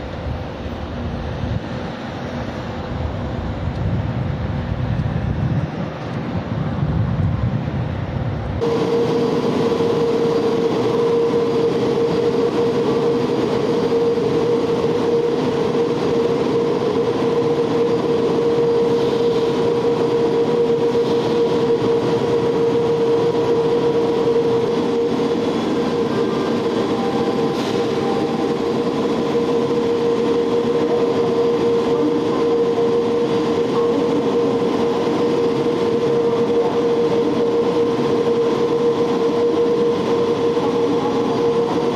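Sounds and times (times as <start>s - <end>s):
rushing noise: 0.0s - 41.9s
turbine whine: 0.0s - 41.9s.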